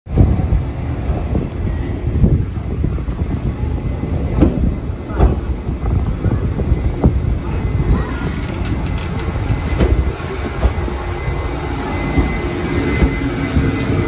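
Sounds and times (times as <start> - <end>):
train cars rolling past: 0.1 - 14.0.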